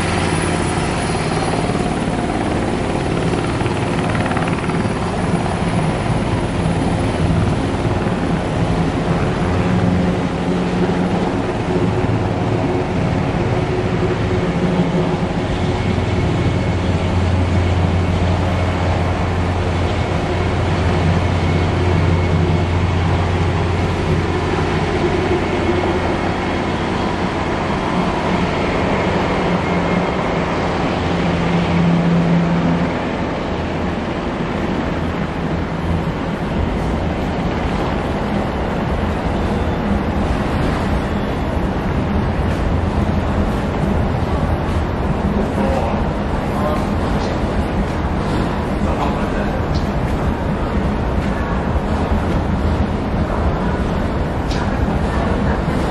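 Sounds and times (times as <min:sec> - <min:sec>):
faint turbine whine: 0:00.0 - 0:55.9
helicopter rotor beat: 0:00.0 - 0:55.9.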